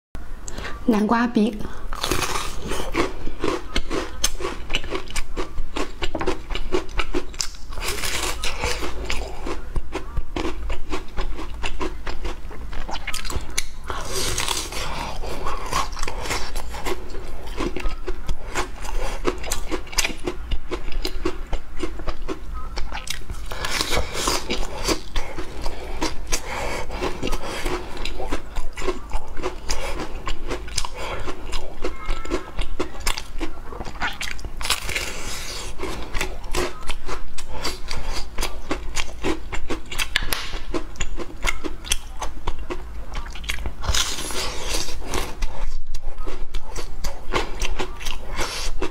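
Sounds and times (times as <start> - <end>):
soft moist chewing: 1.6 - 48.9
biscuit crunching: 2.0 - 48.9.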